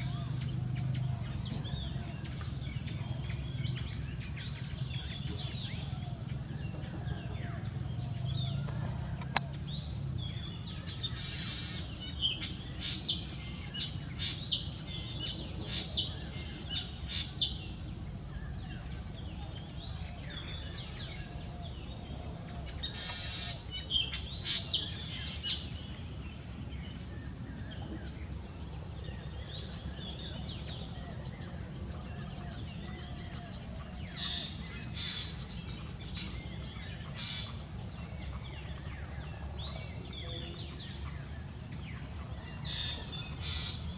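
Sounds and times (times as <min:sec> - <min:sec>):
wild birds calling: 0:00.0 - 0:43.9.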